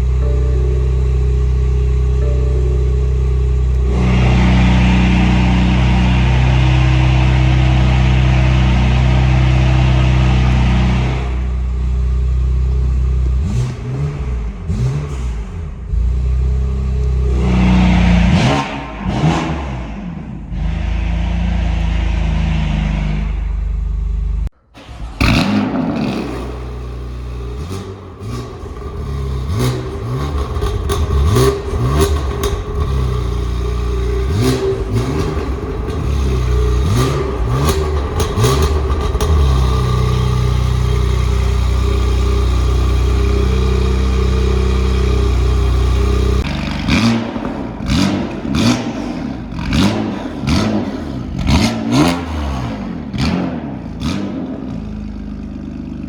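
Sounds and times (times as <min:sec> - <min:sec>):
car engine revving: 0:00.0 - 0:55.8
exhaust crackles: 0:00.0 - 0:55.8.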